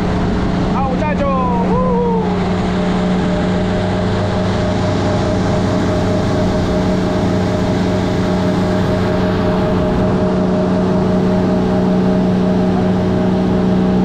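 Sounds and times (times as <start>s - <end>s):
boat motor humming: 0.0s - 14.0s
rushing water noise: 0.0s - 14.0s.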